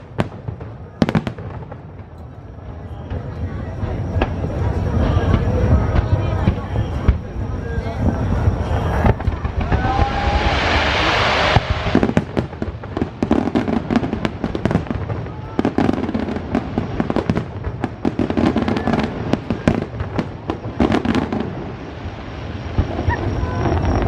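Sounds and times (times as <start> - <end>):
fireworks bangs: 0.0 - 24.0
fireworks popping and crackling: 0.0 - 24.0.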